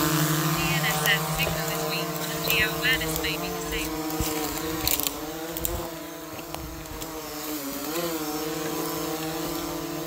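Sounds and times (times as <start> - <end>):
drone propellers humming: 0.0 - 10.0.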